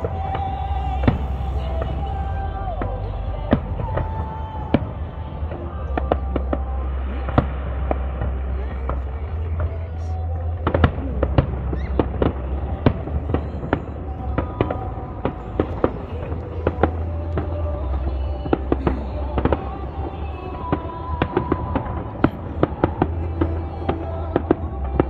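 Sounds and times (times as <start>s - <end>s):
fireworks bangs and crackles: 0.0s - 25.0s
steady low hum: 0.0s - 25.0s.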